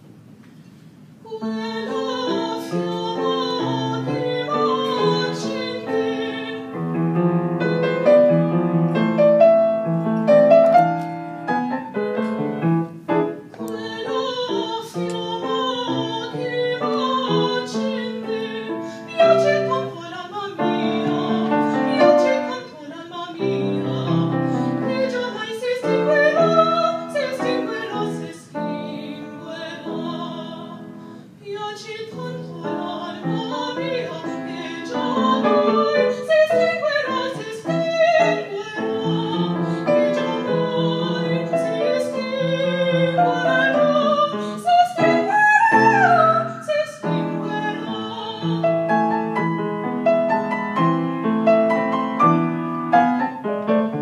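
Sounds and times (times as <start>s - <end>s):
woman singing operatic style: 1.2s - 9.8s, 13.6s - 50.6s
piano accompaniment: 1.2s - 54.0s.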